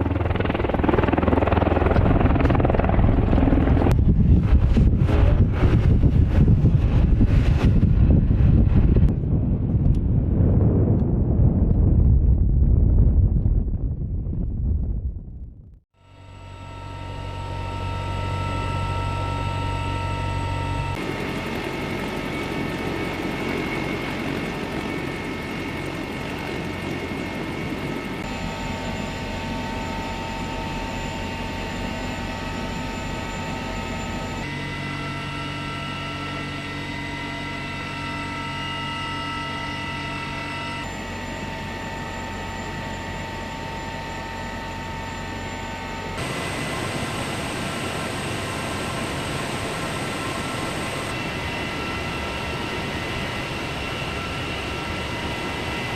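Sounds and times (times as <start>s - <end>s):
helicopter turbine and rotor: 0.0s - 12.5s, 16.0s - 55.9s.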